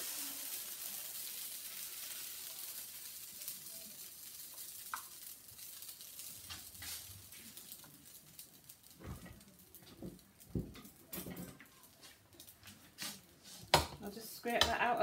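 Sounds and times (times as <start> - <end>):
batter sizzling in waffle maker: 0.0 - 15.0.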